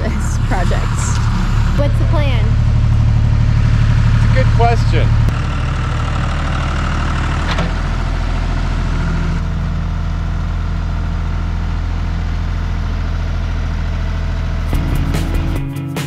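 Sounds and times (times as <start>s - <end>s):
tractor engine idling: 0.0s - 15.5s.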